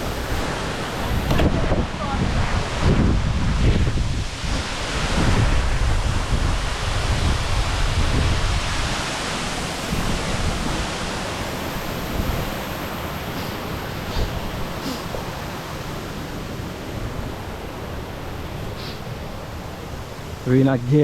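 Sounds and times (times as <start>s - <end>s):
waterfall rushing: 0.0s - 21.0s
wind buffeting microphone: 0.0s - 21.0s.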